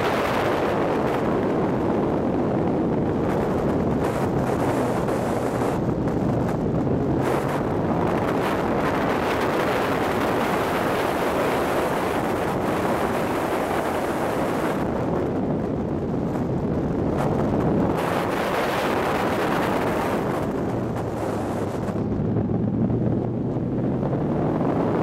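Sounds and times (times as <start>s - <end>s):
turbocharged engine running hard: 0.0s - 25.0s
wind noise on microphone: 0.0s - 25.0s.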